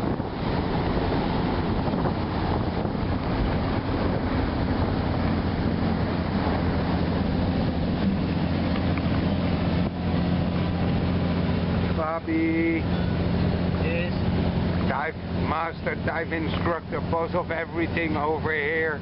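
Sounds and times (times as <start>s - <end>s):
boat engine running: 0.0s - 19.0s
wind noise on microphone: 0.0s - 19.0s.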